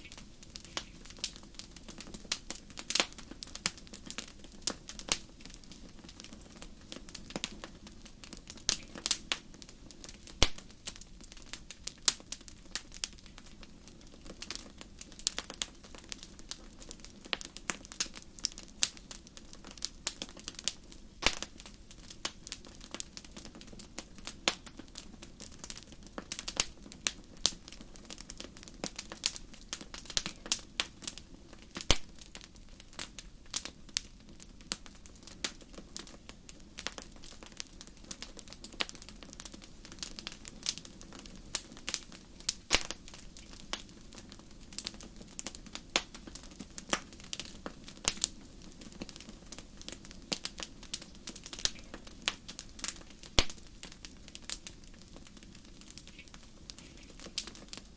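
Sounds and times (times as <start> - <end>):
low burning background: 0.0 - 57.9
wood fire crackling and popping: 0.0 - 57.9.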